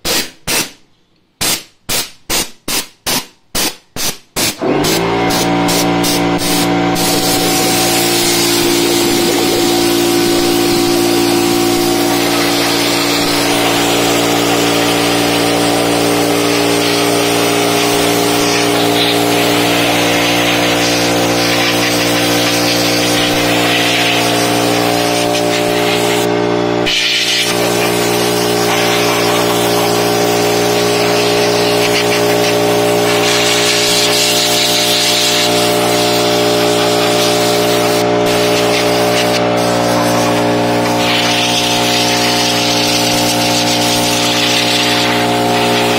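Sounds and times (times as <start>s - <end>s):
air blow gun hissing: 4.4s - 45.9s
air compressor running: 4.4s - 45.9s.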